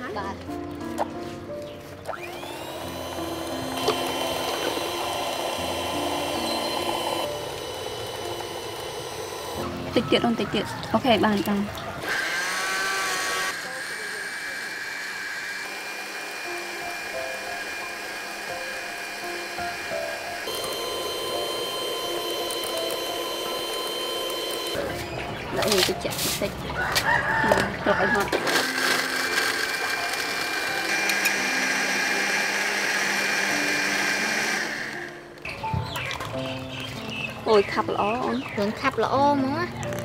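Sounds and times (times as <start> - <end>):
electric mixer whining: 2.0 - 25.9, 26.8 - 38.6.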